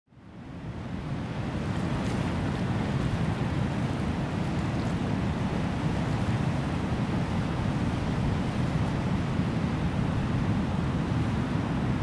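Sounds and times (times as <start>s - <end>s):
deep rumble of surf: 0.1s - 12.0s
ocean waves breaking on rocks: 0.9s - 12.0s.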